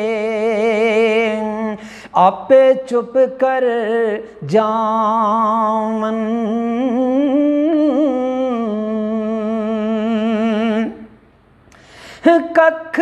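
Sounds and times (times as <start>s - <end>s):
man singing unaccompanied: 0.0s - 11.2s, 12.2s - 13.0s.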